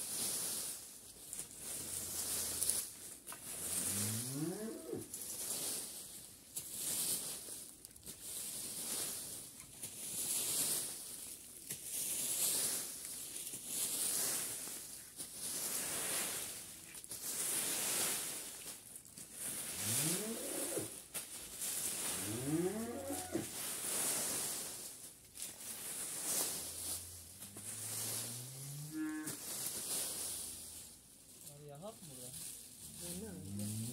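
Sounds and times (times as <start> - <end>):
rake sweeping dry leaves: 0.0 - 33.9.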